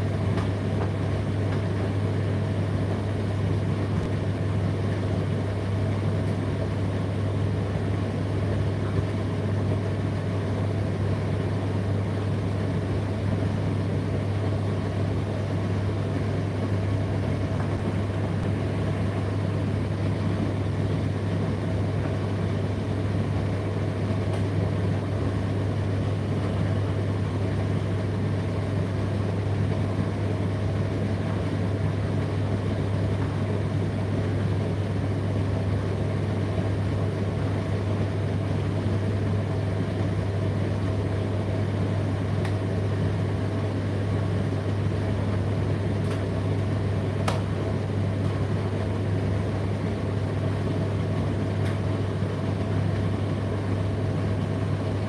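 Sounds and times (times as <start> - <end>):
tumble dryer running: 0.0 - 55.0.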